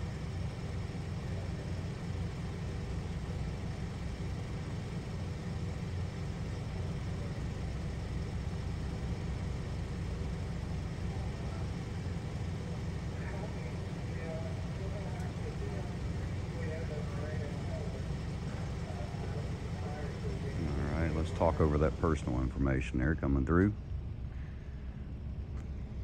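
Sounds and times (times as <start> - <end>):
faint hum tones: 0.0 - 26.0
idling vehicles rumbling: 0.0 - 26.0.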